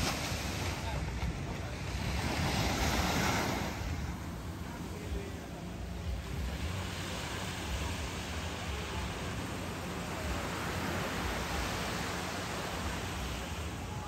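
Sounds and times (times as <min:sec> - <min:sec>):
small waves washing onto beach: 0:00.0 - 0:14.0.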